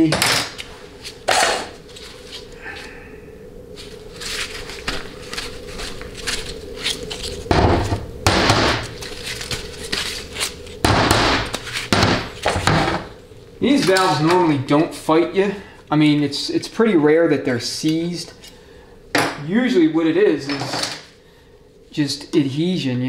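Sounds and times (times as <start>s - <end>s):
low hum: 0.4s - 22.0s.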